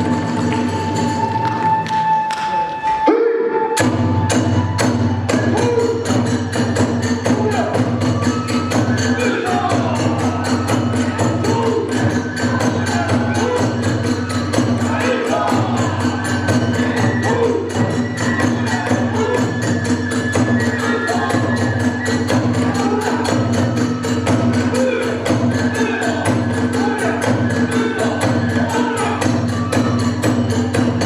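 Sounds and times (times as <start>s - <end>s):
flute melody: 0.0s - 31.0s
drum beat: 3.7s - 31.0s.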